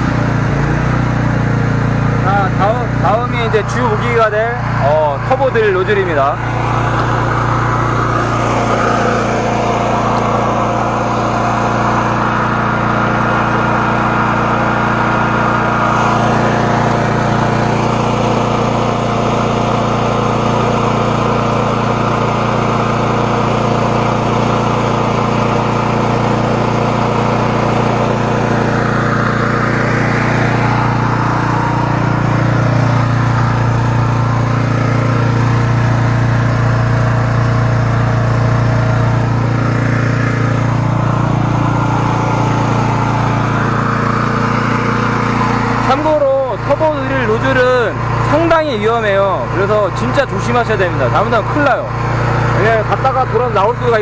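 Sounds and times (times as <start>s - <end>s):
engine running under load: 0.0s - 54.0s.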